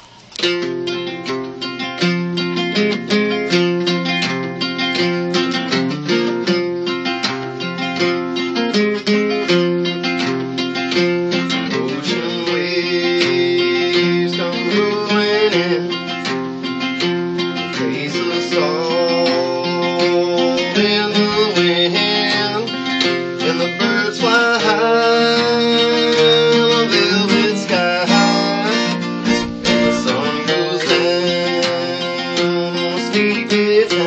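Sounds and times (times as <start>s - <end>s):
acoustic guitars playing: 0.0s - 34.0s.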